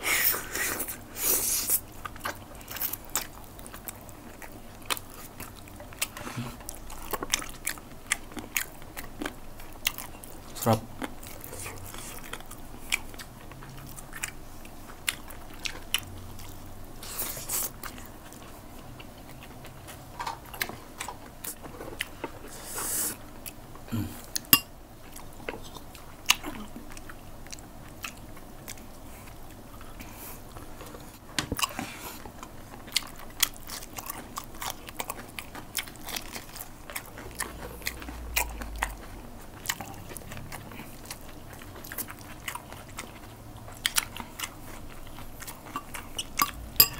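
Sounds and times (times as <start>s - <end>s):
close chewing and biting: 0.2s - 23.6s, 24.2s - 46.9s.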